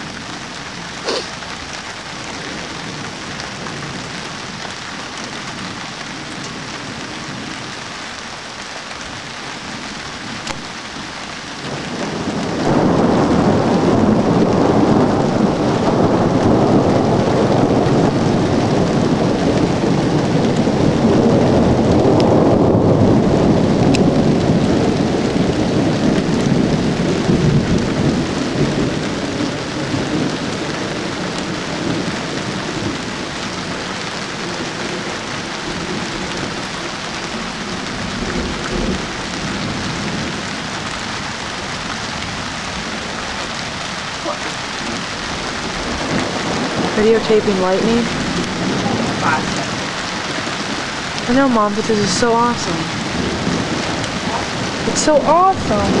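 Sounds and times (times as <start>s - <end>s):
rolling thunder rumble: 0.0s - 56.0s
steady rain: 0.0s - 56.0s.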